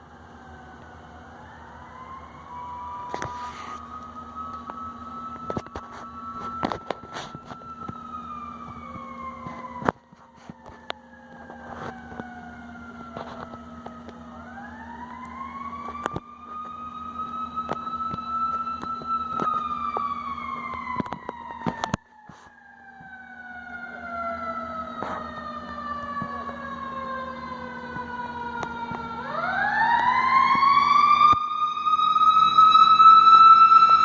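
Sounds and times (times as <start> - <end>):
fire truck siren: 0.0 - 34.0.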